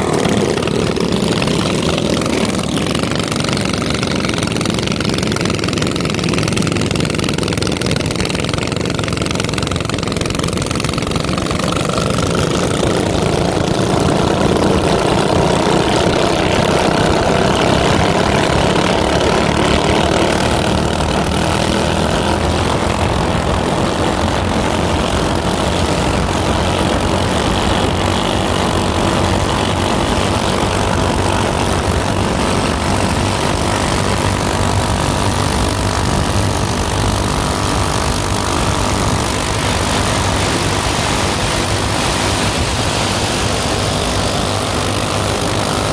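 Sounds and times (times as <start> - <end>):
minibike engine buzzing: 0.0 - 45.9.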